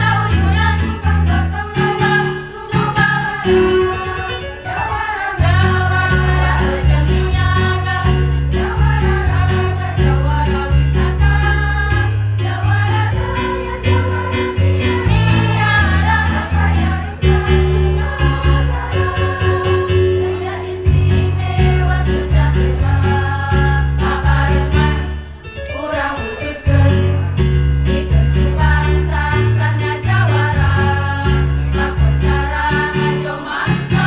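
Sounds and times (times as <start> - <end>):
women's choir singing: 0.0 - 34.0.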